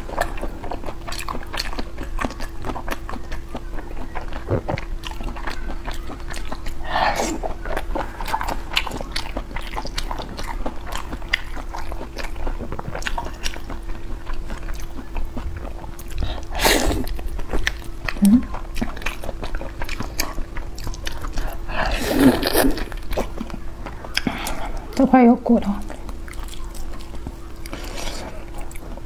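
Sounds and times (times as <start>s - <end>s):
chewing with wet mouth clicks: 0.0s - 29.0s.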